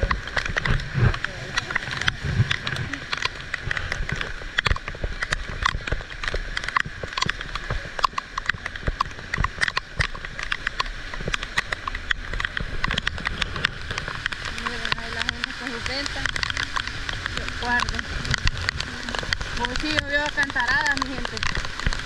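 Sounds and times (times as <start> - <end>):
heavy rain falling: 0.0 - 22.0
raindrops tapping near microphone: 0.0 - 22.0.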